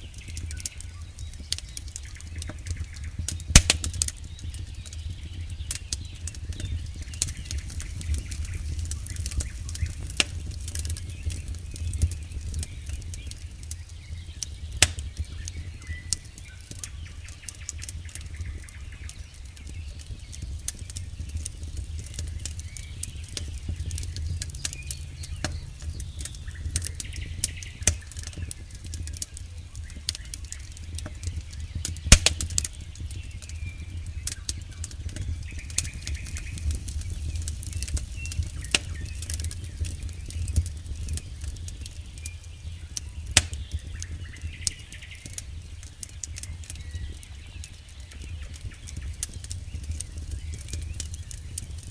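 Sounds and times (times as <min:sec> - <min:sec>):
low rumble of flames: 0:00.0 - 0:51.9
wood crackling and popping: 0:00.0 - 0:51.9.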